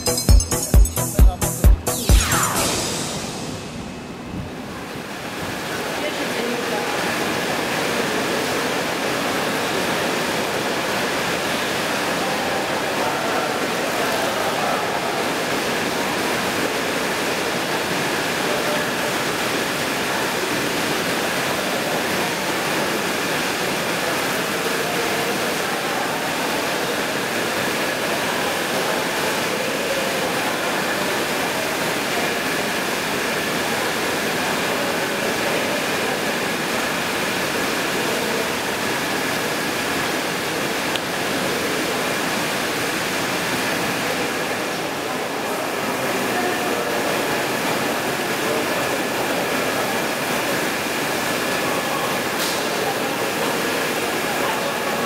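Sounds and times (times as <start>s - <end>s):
rushing water: 1.7s - 55.0s.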